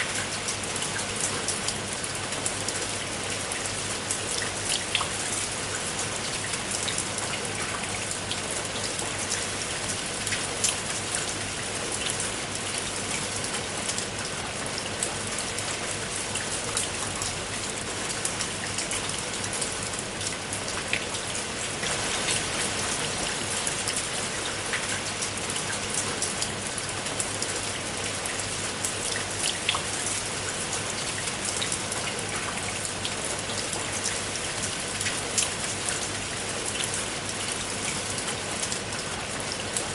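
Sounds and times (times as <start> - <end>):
rain hissing on a tiled roof: 0.0 - 39.9.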